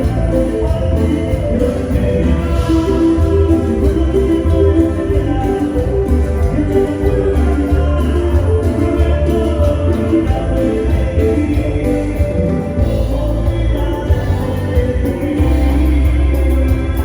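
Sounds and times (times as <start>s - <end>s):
band music with guitar and bass: 0.0s - 17.0s.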